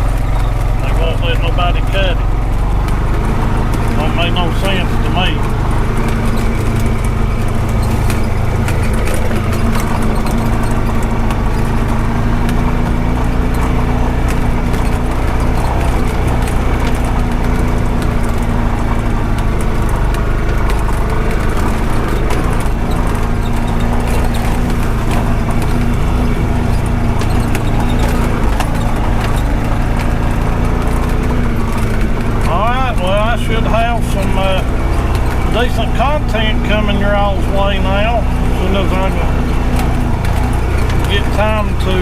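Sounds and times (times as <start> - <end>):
rattling and jolting knocks: 0.0 - 42.0
vehicle engine drone: 0.0 - 42.0.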